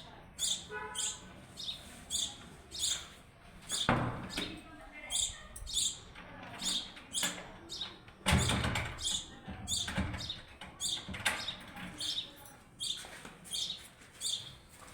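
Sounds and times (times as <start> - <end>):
small birds chirping: 0.0 - 14.7.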